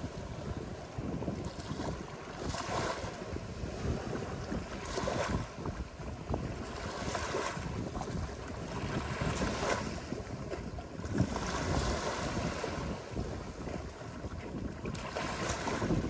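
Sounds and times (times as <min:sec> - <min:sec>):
ocean surf breaking on beach: 0:00.0 - 0:14.2, 0:14.9 - 0:16.0
wind rumbling on microphone: 0:00.0 - 0:16.0.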